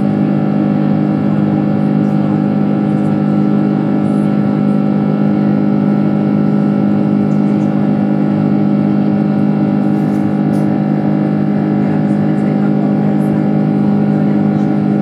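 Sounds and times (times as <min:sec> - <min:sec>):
jet engines droning in cabin: 0:00.0 - 0:15.0.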